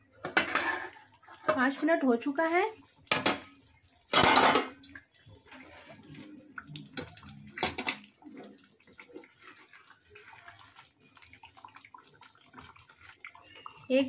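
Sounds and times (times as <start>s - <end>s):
spatula stirring thick gravy: 0.0s - 13.9s.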